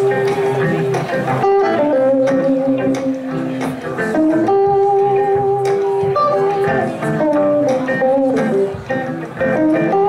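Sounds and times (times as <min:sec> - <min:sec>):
electric guitars playing: 0:00.0 - 0:10.0.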